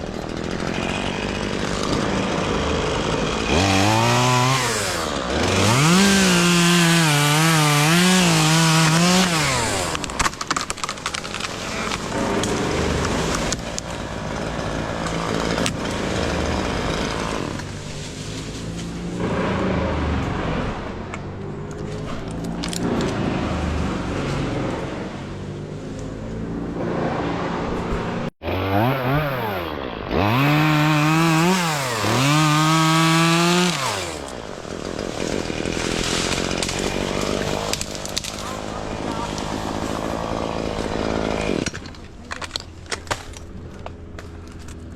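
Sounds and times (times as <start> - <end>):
chainsaw revving: 0.0 - 25.6, 28.2 - 42.2
chainsaw cutting limbs: 0.0 - 44.9.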